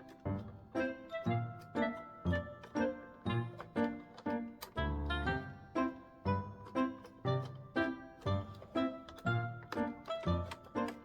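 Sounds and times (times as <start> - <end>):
bouncy instrumental music: 0.0 - 11.0.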